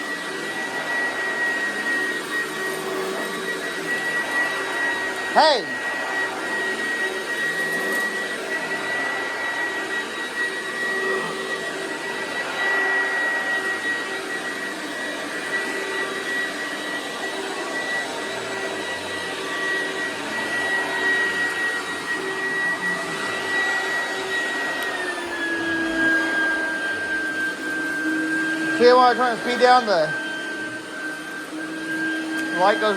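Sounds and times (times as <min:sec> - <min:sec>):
upright vacuum running: 0:00.0 - 0:32.9.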